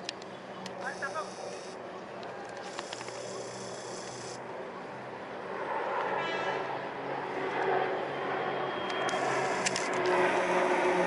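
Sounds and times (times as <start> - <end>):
aircraft engine drone overhead: 0.0 - 11.0.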